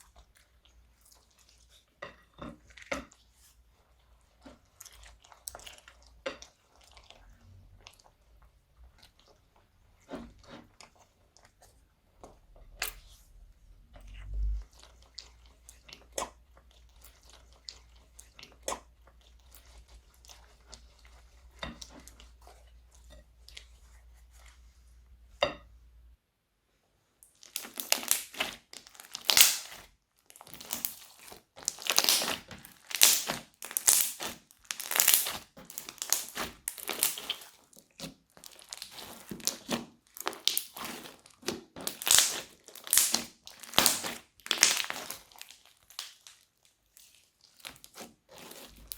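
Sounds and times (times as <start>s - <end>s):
slime crinkling and crunching: 2.6s - 8.2s, 12.2s - 24.2s, 27.2s - 48.9s.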